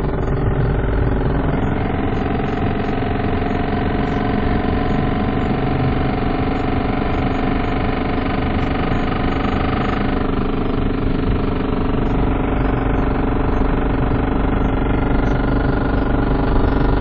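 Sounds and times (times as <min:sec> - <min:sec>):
car engine running inside cabin: 0:00.0 - 0:17.0.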